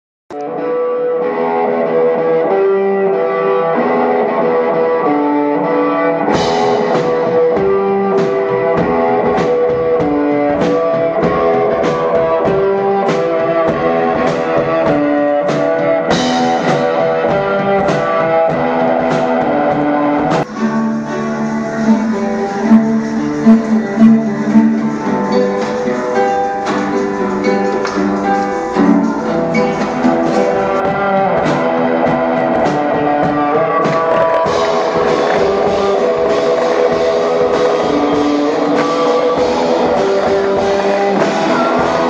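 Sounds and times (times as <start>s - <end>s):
guitar-led rock music: 0.3s - 42.0s
drum beat with cymbal crashes: 6.3s - 42.0s.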